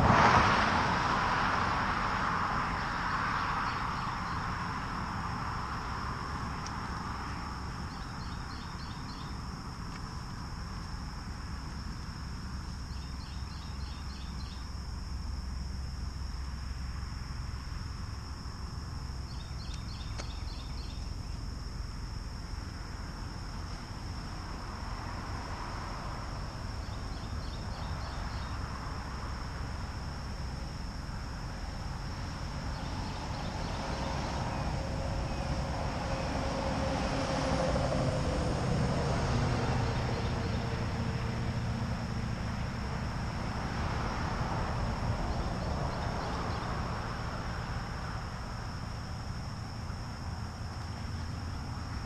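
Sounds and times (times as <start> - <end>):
vehicle passing: 0.0 - 21.1, 21.7 - 52.0
high insect drone: 0.0 - 52.0.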